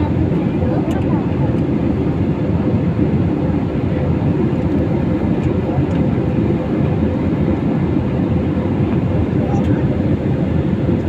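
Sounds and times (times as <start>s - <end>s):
jet engines and rushing air: 0.0s - 11.0s.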